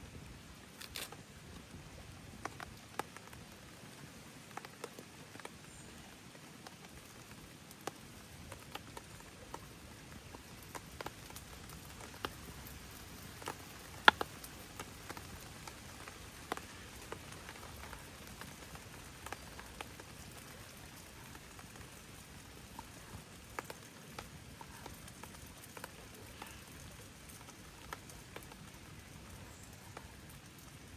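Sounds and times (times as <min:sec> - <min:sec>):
faint steady hiss: 0:00.0 - 0:30.9
raindrops ticking: 0:00.6 - 0:30.9.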